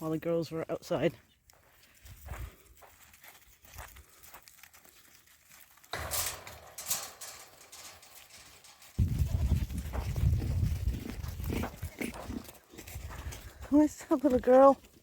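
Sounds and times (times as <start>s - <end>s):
goat hooves clopping: 1.1s - 15.0s
rustling noise: 1.6s - 15.0s.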